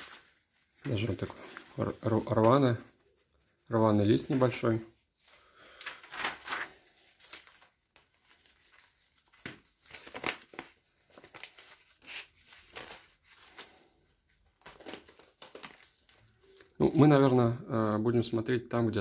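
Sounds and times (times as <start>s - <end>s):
paper sheets rustling: 0.0s - 17.6s.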